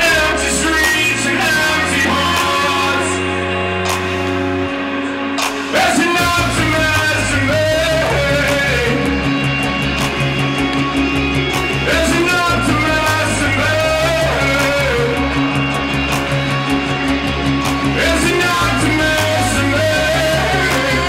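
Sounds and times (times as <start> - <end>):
person singing: 0.0 - 10.2, 11.7 - 16.4, 17.7 - 21.0
drums: 0.0 - 21.0
electric guitar: 0.0 - 21.0
low bass line: 0.0 - 21.0.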